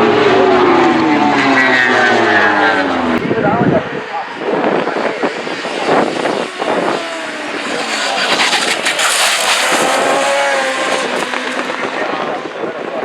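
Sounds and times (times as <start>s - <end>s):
racing engines at high revs: 0.0s - 13.0s.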